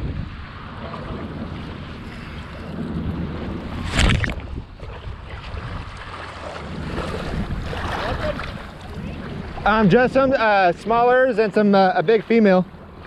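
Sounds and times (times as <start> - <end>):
wind buffeting microphone: 0.0 - 11.2
water lapping around kayak: 0.0 - 13.0.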